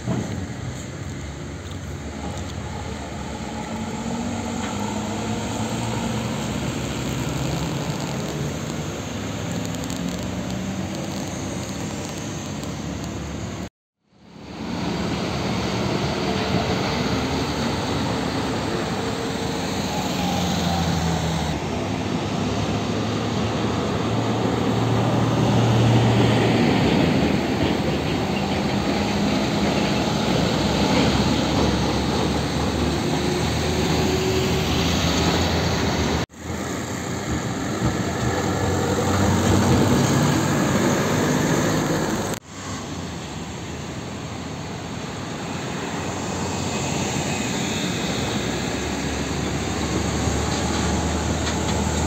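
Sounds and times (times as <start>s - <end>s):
trucks passing close by: 0.0s - 13.7s, 14.3s - 52.0s.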